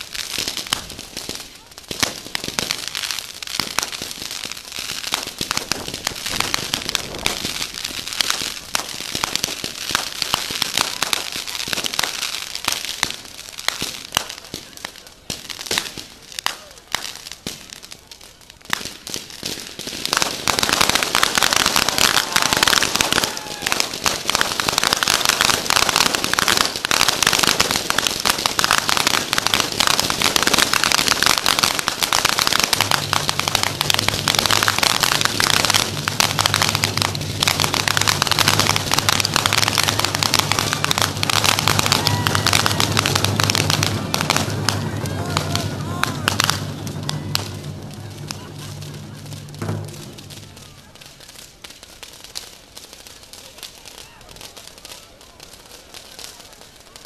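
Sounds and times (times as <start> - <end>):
fireworks crackling and popping: 0.0 - 57.0
spark fountains crackling and hissing: 0.0 - 57.0.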